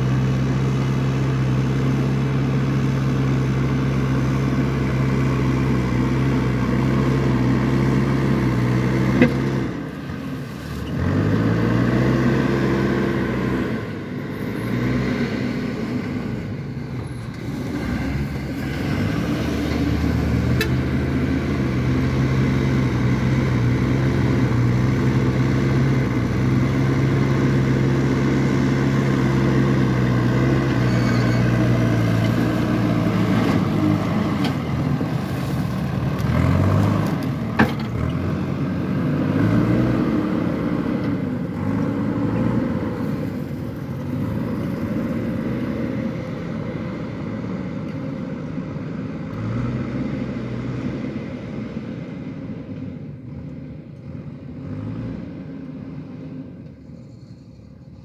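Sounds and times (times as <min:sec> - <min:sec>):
diesel engine revving under load: 0:00.0 - 0:58.0.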